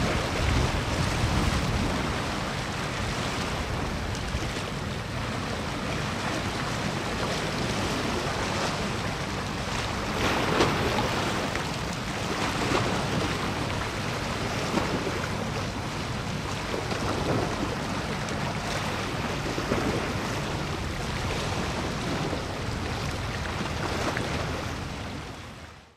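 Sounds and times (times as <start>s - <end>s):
wind noise on microphone: 0.0s - 25.4s
small waves washing ashore: 0.0s - 25.9s.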